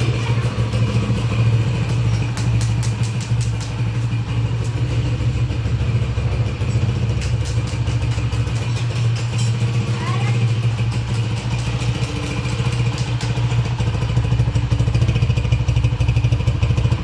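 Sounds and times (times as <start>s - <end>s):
light engine ticking: 0.0s - 17.0s
motorcycle engine idling: 0.0s - 17.0s.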